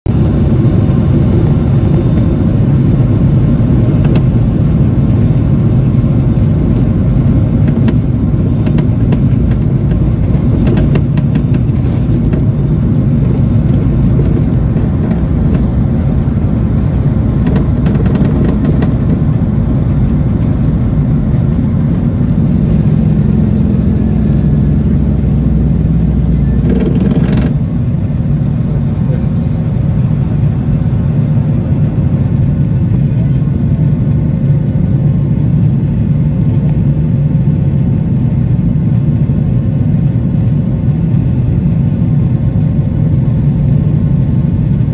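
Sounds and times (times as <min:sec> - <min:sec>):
wheels rumbling on runway: 0:00.0 - 0:44.9
jet engines at takeoff thrust: 0:00.1 - 0:44.9.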